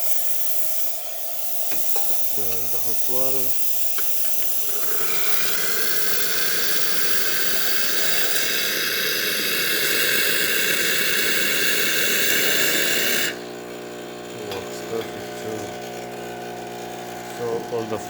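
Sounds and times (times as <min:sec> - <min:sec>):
hot water spout hissing: 0:00.0 - 0:18.0.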